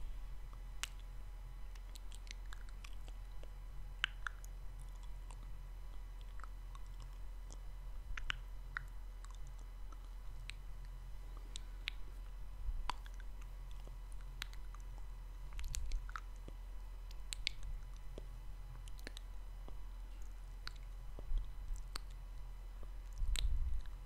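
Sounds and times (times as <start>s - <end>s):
steady low hum: 0.0s - 24.0s
wet lip and tongue clicks: 0.8s - 1.1s, 1.7s - 22.2s, 22.8s - 24.0s.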